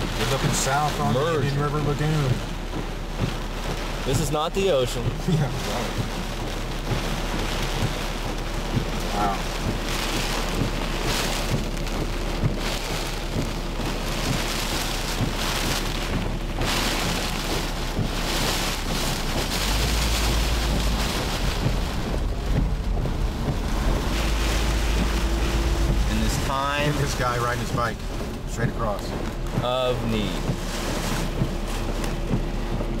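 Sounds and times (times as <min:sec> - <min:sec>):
heavy rain on car windshield: 0:00.0 - 0:33.0
low rumble: 0:00.0 - 0:33.0.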